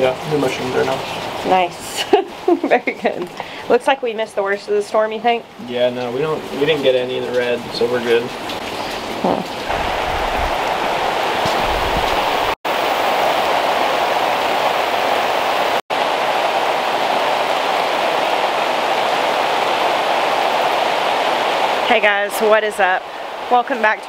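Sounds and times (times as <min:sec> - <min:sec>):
heavy rain on plastic sheeting: 0:00.0 - 0:24.0.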